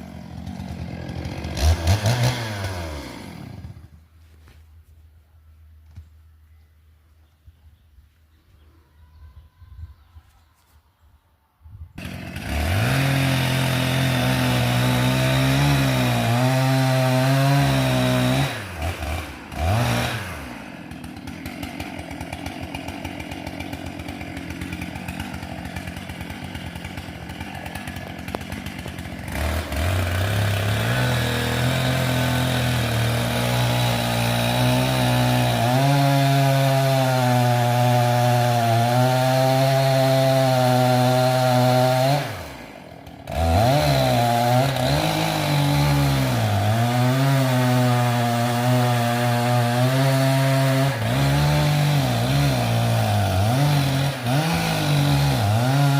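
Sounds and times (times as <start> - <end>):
chainsaw idling: 0.0 - 4.0, 12.0 - 55.9
chainsaw cutting wood: 0.0 - 4.1, 12.0 - 55.9.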